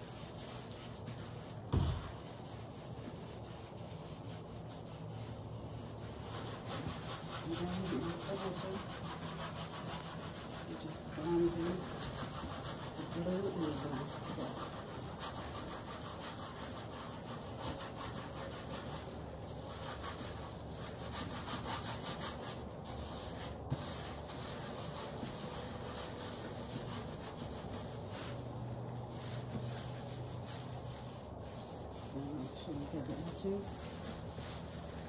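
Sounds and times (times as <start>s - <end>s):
fingers smearing paint on canvas: 0.0s - 35.0s.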